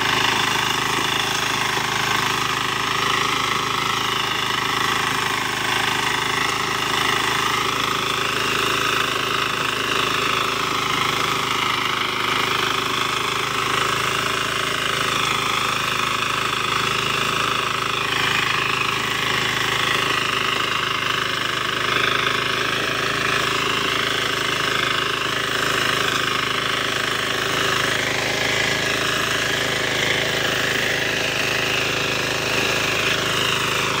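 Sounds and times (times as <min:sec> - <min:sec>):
power tiller engine running: 0:00.0 - 0:34.0
tines churning soil: 0:00.0 - 0:34.0.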